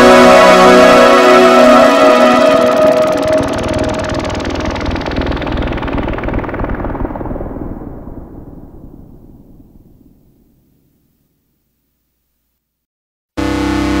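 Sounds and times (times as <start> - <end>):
synthesizer noise fluttering pulse: 0.0 - 11.1, 13.4 - 14.0.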